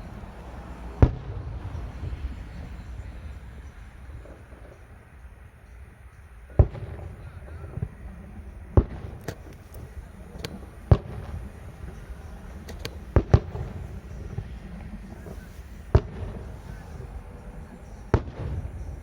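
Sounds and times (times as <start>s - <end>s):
fireworks bangs: 0.0s - 19.0s
steady low rumble: 0.0s - 19.0s.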